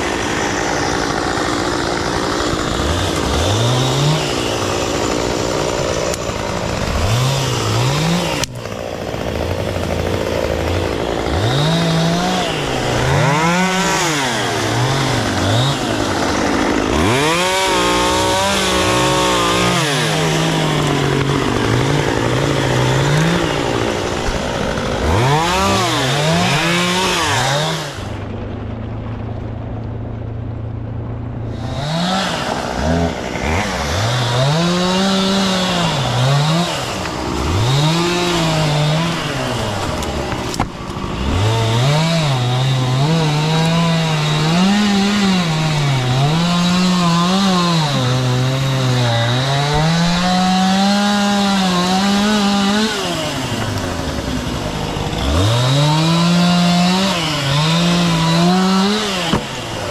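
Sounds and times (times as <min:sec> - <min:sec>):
chainsaw revving: 0:00.0 - 0:28.3, 0:31.4 - 0:59.9.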